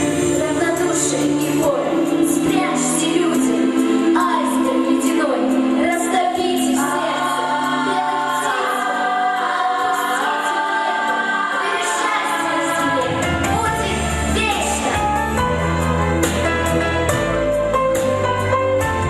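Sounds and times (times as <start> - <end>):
vocal ensemble singing held notes: 0.0 - 17.5
instrumental backing track: 0.0 - 19.0.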